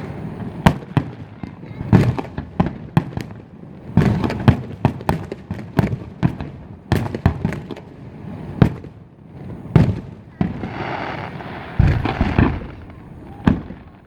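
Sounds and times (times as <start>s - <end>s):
fireworks bursting: 0.0s - 5.0s, 7.0s - 14.0s.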